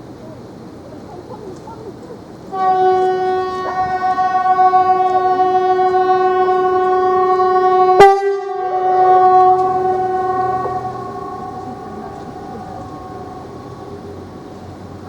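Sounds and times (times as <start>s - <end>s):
pneumatic warning horn: 2.5s - 14.7s.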